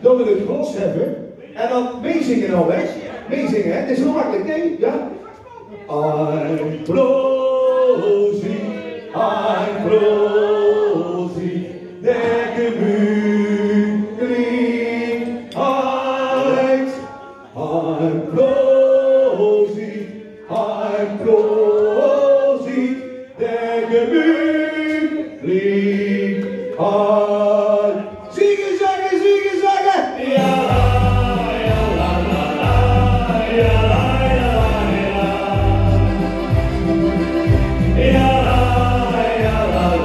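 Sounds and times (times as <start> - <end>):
several voices singing together: 5.9 - 40.0.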